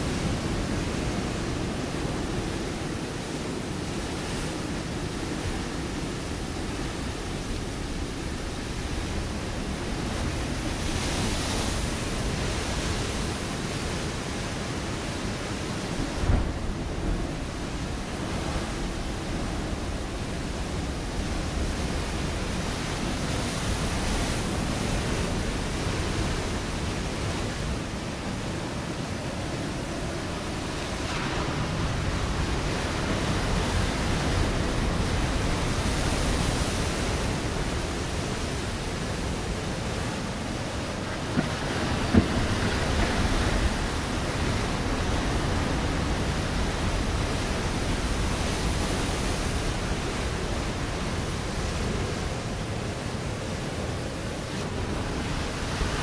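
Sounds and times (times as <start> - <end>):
waves breaking on rocky shore: 0.0 - 56.0.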